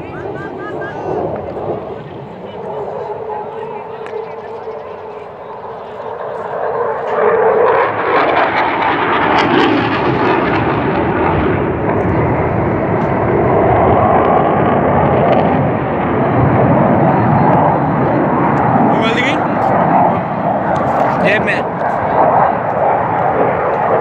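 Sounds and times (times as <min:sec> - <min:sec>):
jet flying low overhead: 0:00.0 - 0:24.0.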